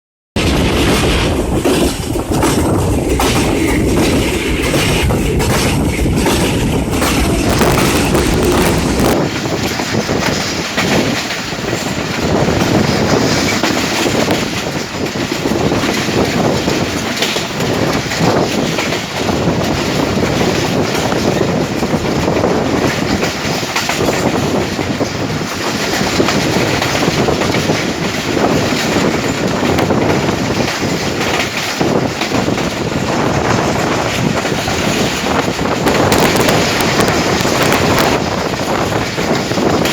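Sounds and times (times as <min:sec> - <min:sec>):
train carriages rumbling past: 0:00.4 - 0:39.9
wheels clacking over rail joints: 0:00.4 - 0:39.9.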